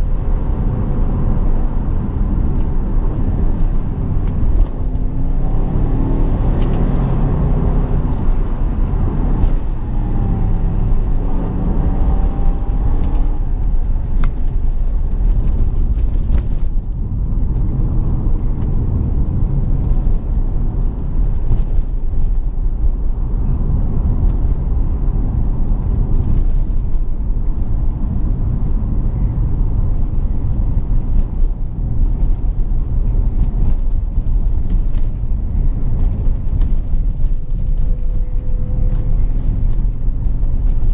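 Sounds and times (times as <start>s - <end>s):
road noise: 0.0s - 40.9s.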